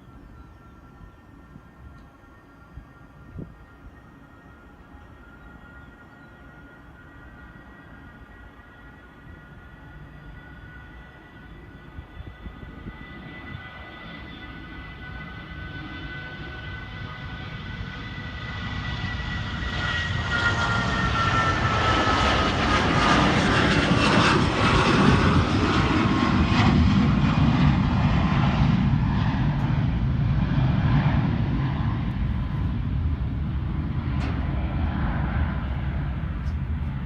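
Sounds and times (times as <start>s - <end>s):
jet engines roaring at takeoff: 0.0s - 37.0s.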